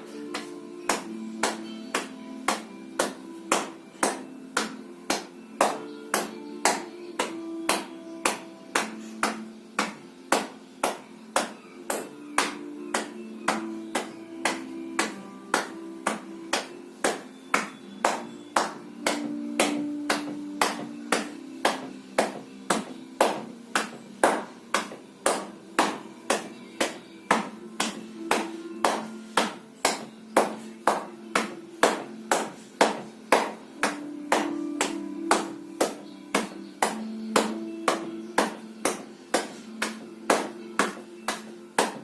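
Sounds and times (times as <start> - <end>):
sharp rhythmic taps: 0.0 - 42.0.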